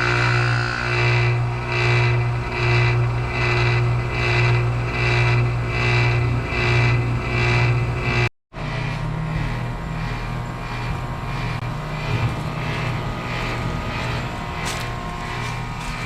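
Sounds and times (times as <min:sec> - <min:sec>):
compressor hum: 0:00.0 - 0:16.0
fan whooshing: 0:00.9 - 0:16.0.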